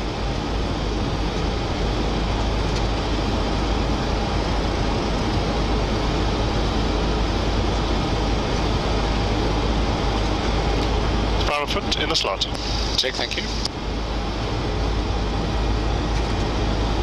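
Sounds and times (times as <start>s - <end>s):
airflow rushing in cockpit: 0.0s - 17.0s
low aircraft rumble: 0.0s - 17.0s.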